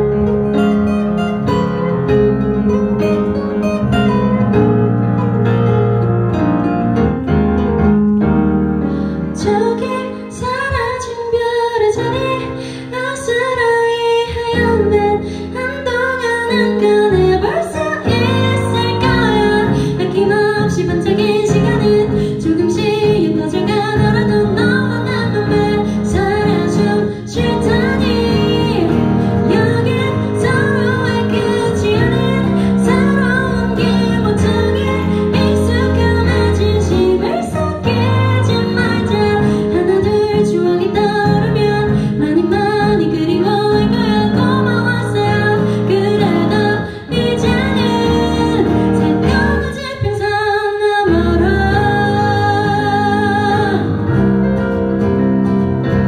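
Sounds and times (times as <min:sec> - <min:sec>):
piano chords: 0:00.0 - 0:56.0
woman singing a pop ballad: 0:09.3 - 0:54.2.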